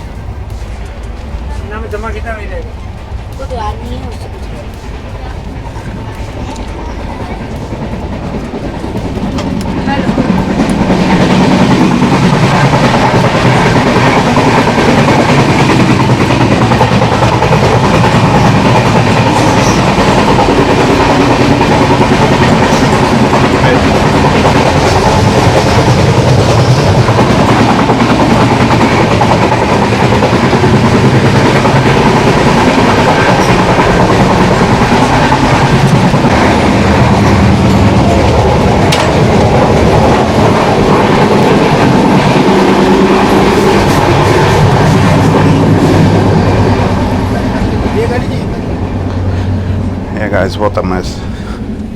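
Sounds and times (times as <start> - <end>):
wheels clacking over rail joints: 0.0 - 49.4
train rumbling on rails: 0.0 - 51.9.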